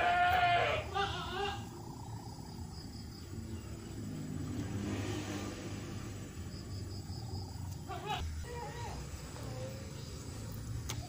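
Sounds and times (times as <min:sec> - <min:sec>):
insects chirping in trills: 0:00.0 - 0:11.0.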